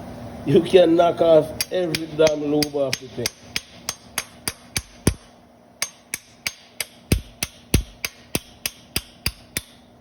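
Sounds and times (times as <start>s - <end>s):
hammer striking metal: 1.6s - 9.8s.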